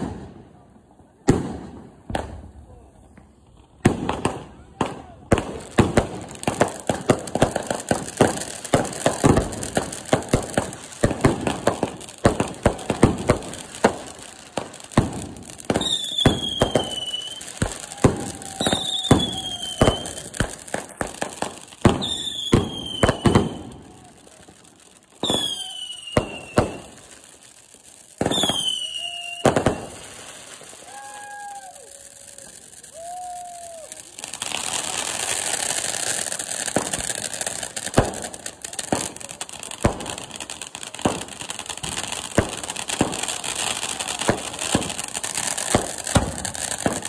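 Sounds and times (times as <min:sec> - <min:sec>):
firework fountains crackling: 0:00.0 - 0:47.0
whistling firework shots: 0:01.1 - 0:27.3, 0:28.2 - 0:47.0.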